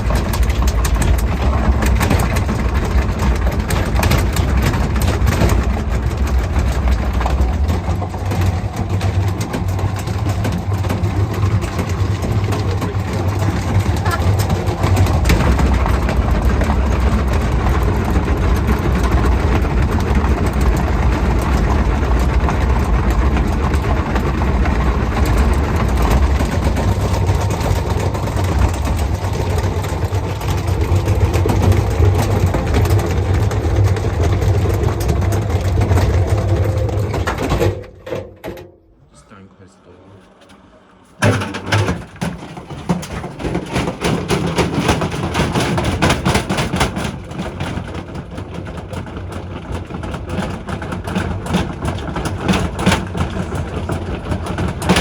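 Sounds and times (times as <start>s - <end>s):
machine low rumble: 0.0s - 55.0s.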